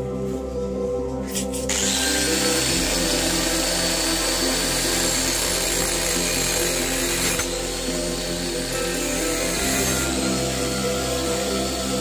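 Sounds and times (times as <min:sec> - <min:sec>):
angle grinder grinding steel pipe: 0:01.3 - 0:12.0.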